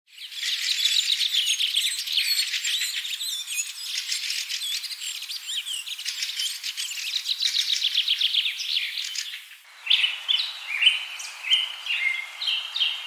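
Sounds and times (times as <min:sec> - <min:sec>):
songbirds chirping and singing: 0:00.1 - 0:13.0.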